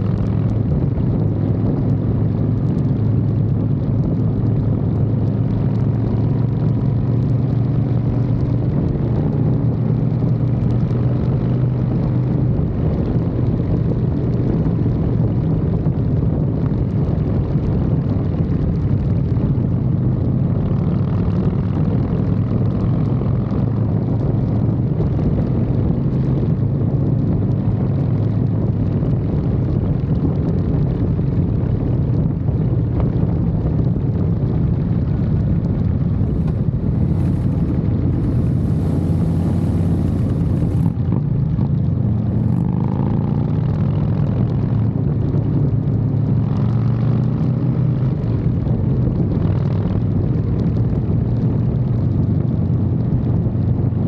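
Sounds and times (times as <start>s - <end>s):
road noise: 0.0s - 53.8s
motorcycle engine running: 0.0s - 54.0s
wind noise: 0.0s - 54.0s.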